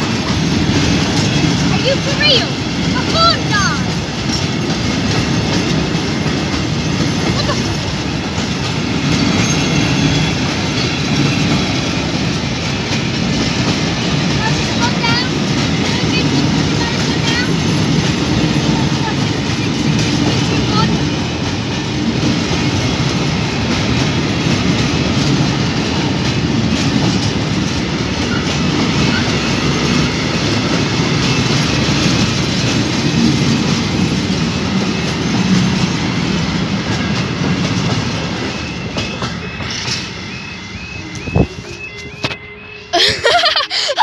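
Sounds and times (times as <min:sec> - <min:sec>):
train wheels rumbling and clattering: 0:00.0 - 0:44.0.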